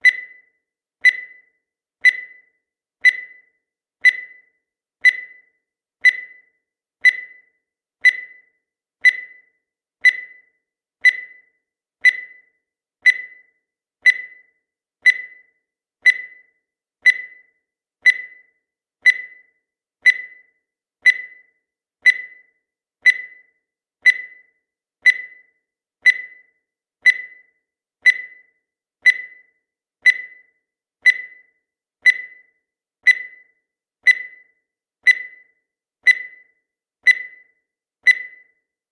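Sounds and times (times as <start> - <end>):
high ringing timer ticks: 0.0 - 38.8.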